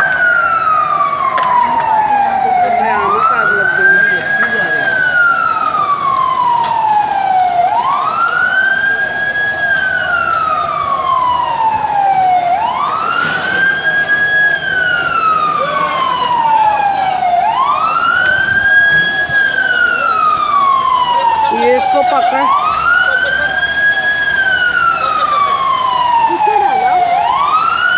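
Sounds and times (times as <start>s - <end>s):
emergency siren wailing: 0.0s - 27.9s.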